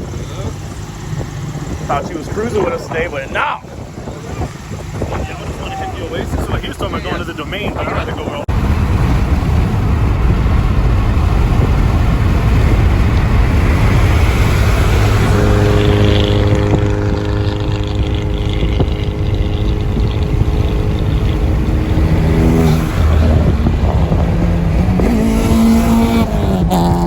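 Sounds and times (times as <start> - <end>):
car engine droning: 0.0 - 27.0
road rumble: 0.0 - 27.0.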